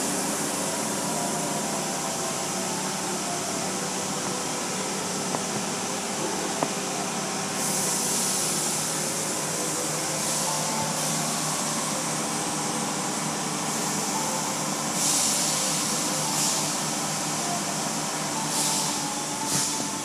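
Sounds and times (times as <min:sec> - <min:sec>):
water spray and wash machinery: 0:00.0 - 0:20.0.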